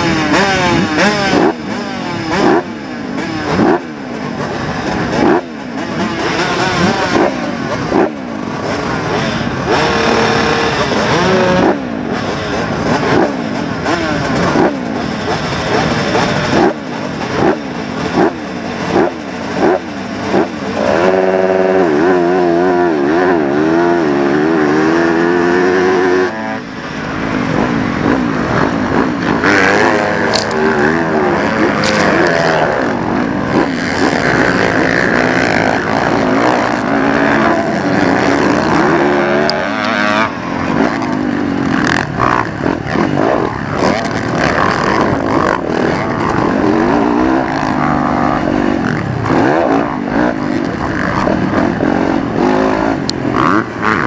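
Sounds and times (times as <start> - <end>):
motocross bike engines revving: 0.0 - 54.0.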